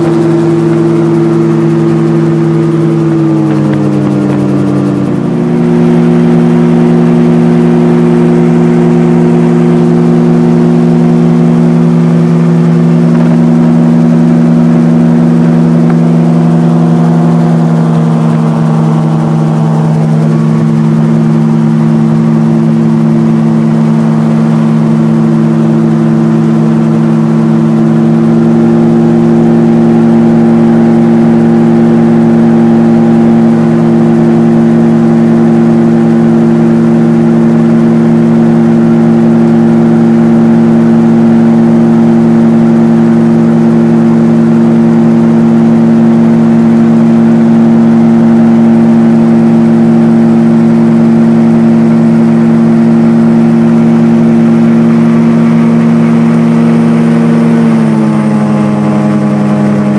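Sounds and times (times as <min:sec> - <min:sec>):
gyroplane engine and propeller: 0:00.0 - 0:59.9.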